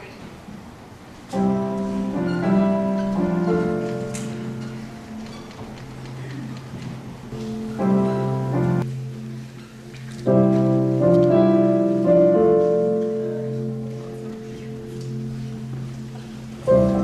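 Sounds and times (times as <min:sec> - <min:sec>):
piano chords: 0:01.1 - 0:17.0.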